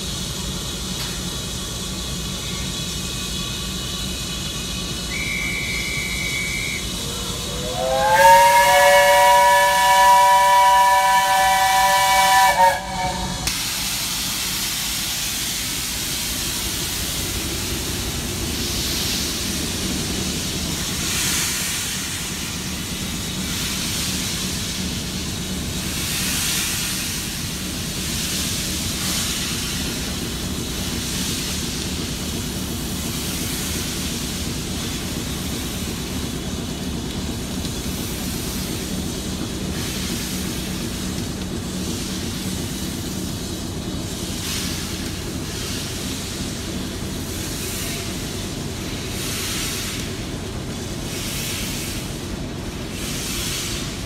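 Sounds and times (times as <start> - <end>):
steam hissing: 0.0 - 54.0
steam locomotive exhaust beats: 0.0 - 54.0.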